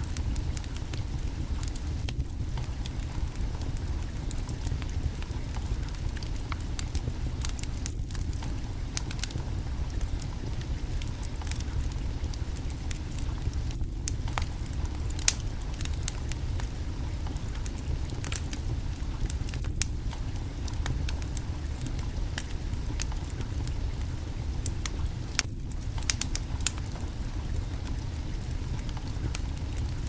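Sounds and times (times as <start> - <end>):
low rumble of flame: 0.0 - 30.0
wood fire crackling: 0.0 - 30.0.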